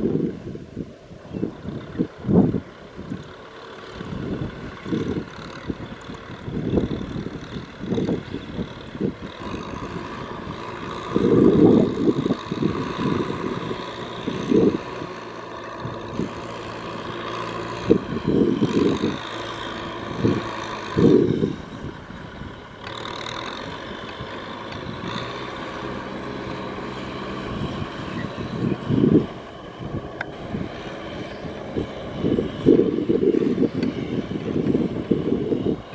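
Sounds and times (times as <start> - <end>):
tractor engine running under load: 0.0 - 35.9.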